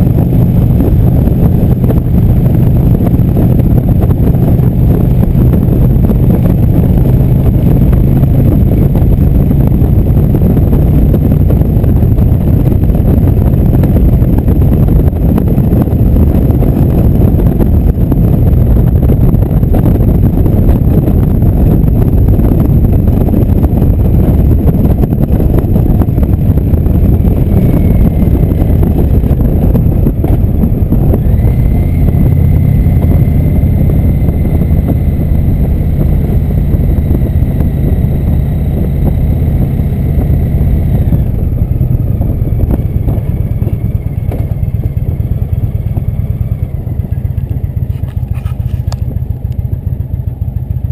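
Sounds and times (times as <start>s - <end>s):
motorcycle engine rumble: 0.0s - 50.9s
wind rushing over microphone: 0.0s - 50.9s.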